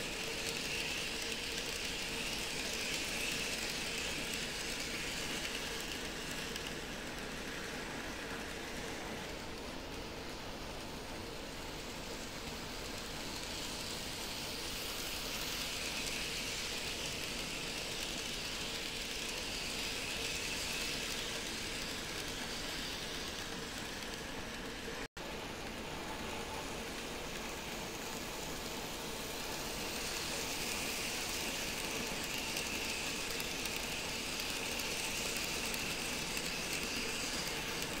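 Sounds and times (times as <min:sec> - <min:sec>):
model train rolling hum: 0:00.0 - 0:38.0.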